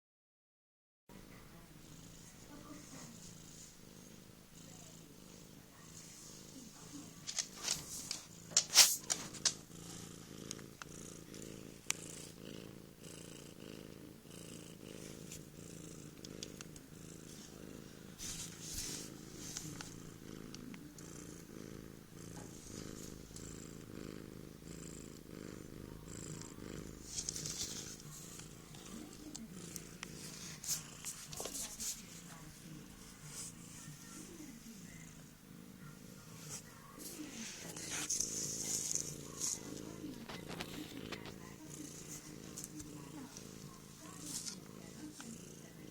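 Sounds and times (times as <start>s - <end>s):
cat purring: 1.1s - 45.9s.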